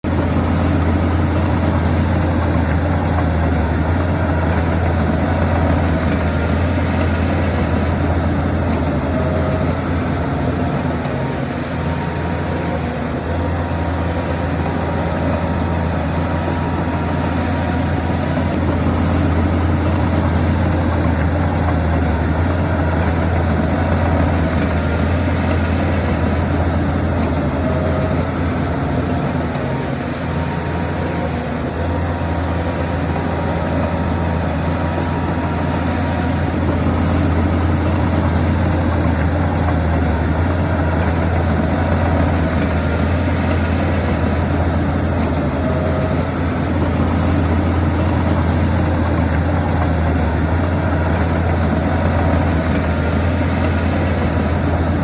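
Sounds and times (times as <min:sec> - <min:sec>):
heavy diesel machinery engine drone: 0:00.0 - 0:55.0.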